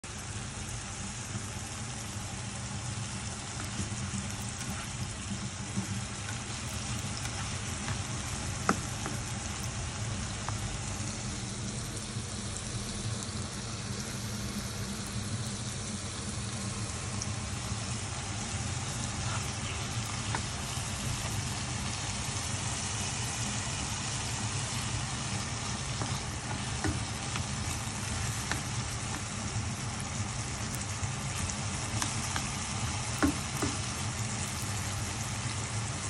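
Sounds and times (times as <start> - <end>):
vegetables sizzling in oil: 0.0 - 36.0.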